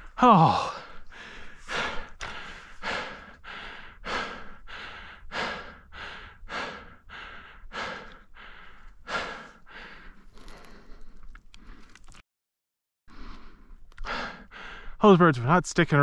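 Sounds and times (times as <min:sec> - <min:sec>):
person breathing hard: 0:00.0 - 0:12.2, 0:13.1 - 0:15.0.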